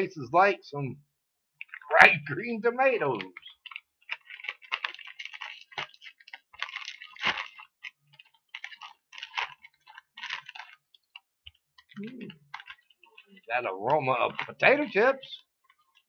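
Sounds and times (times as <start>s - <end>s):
plastic chip bag crinkling: 2.8s - 16.0s.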